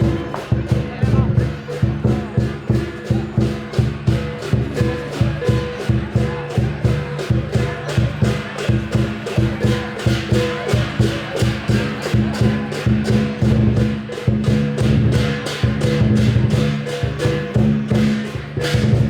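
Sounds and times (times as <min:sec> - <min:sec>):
big drum beating: 0:00.0 - 0:19.0
cymbals clashing: 0:00.0 - 0:19.0.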